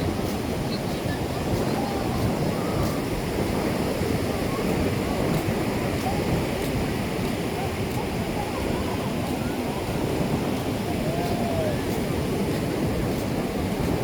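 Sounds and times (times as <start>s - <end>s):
faint distant voices: 0.0s - 13.8s
ocean surf washing onto shore: 0.0s - 14.0s.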